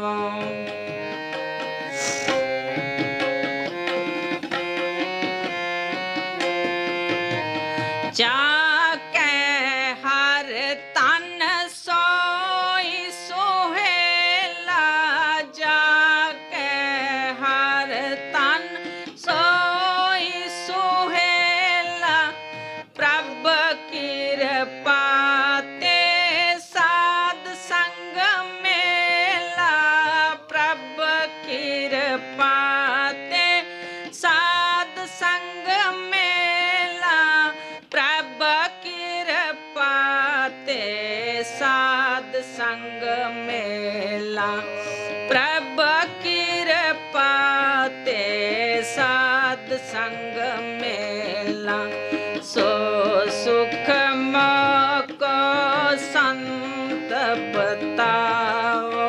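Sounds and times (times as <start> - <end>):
harmonium melody: 0.0 - 59.0
tabla beating: 0.0 - 59.0.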